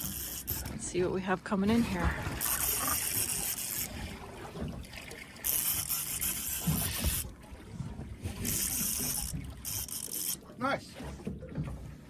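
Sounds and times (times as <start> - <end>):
water sloshing around boat: 0.0 - 12.0.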